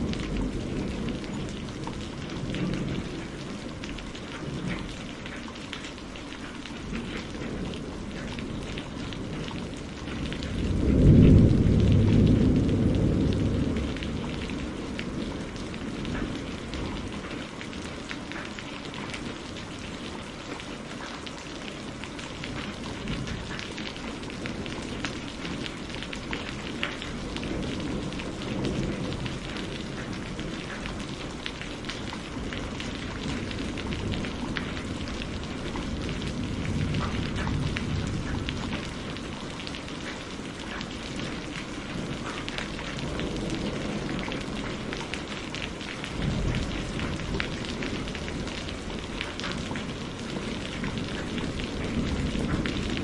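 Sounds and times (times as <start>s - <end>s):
thunder rumbling: 0.0s - 5.6s, 6.7s - 20.6s, 21.6s - 53.0s
steady rain falling: 0.0s - 53.0s.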